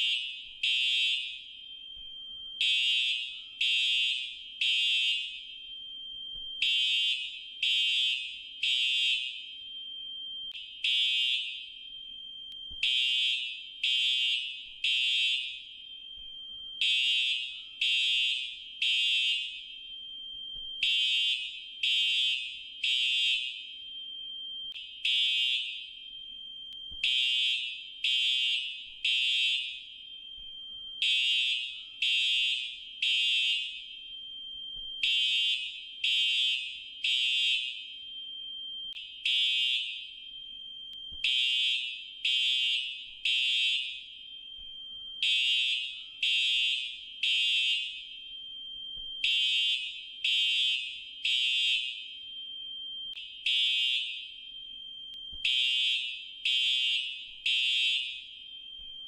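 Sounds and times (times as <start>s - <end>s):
faint steady alarm tone: 0.0s - 59.0s
fire alarm beeping: 0.0s - 59.0s.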